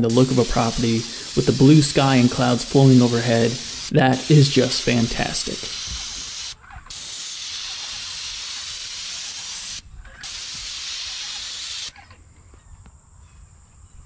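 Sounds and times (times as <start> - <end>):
paint spray gun hissing: 0.0 - 11.9.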